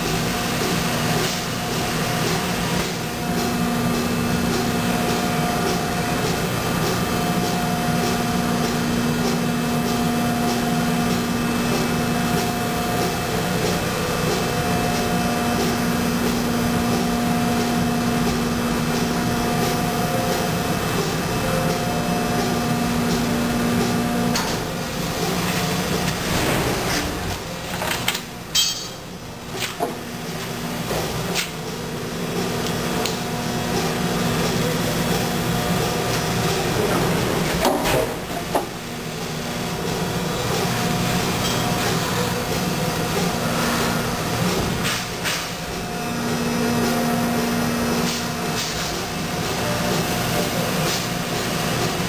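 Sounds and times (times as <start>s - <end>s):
machine hum with held tones: 0.0s - 52.0s.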